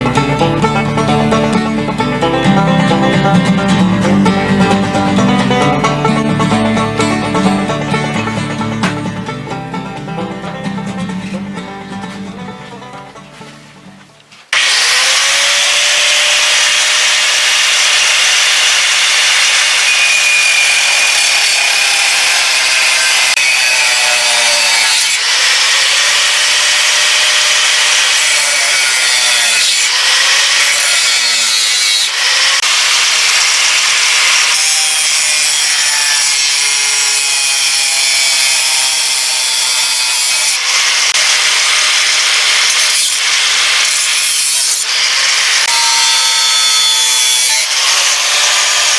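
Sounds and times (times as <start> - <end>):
power tool grinding metal: 6.9 - 48.9.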